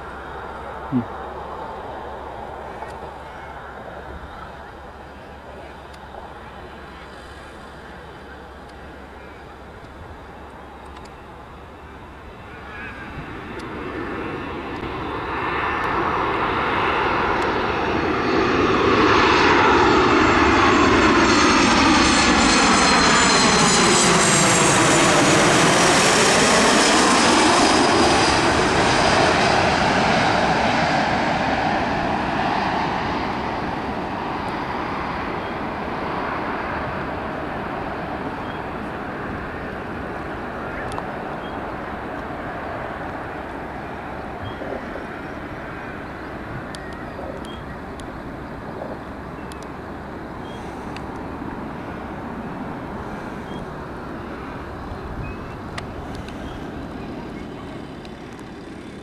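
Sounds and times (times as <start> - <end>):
jet engines passing close: 0.0 - 59.0.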